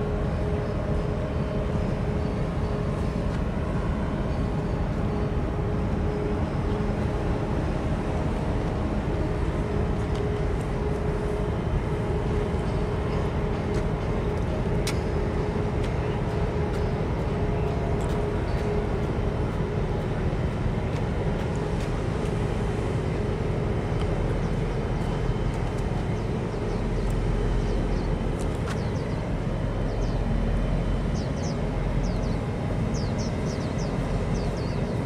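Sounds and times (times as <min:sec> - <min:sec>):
ship engines rumbling: 0:00.0 - 0:35.0.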